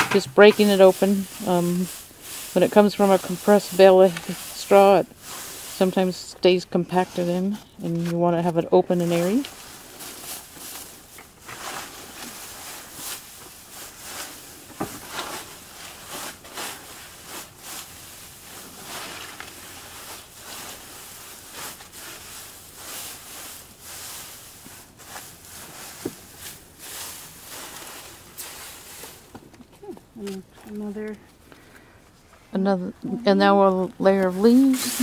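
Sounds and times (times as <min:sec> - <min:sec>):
straw and paper rustling: 0:00.0 - 0:32.5, 0:33.5 - 0:35.0.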